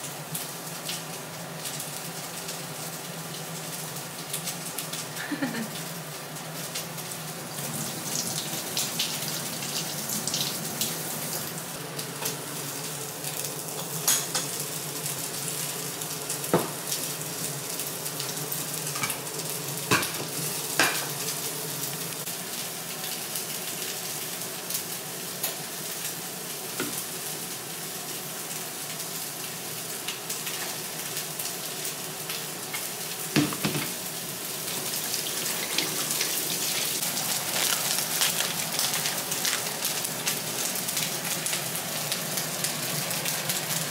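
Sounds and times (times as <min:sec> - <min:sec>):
food sizzling in frying pan: 0:00.0 - 0:43.9.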